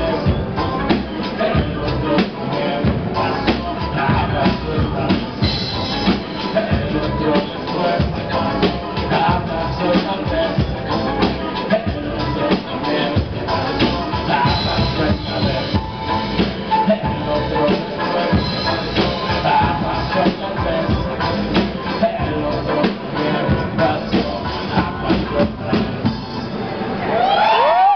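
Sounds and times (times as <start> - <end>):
drum kit: 0.0 - 27.3
live band music: 0.0 - 27.8.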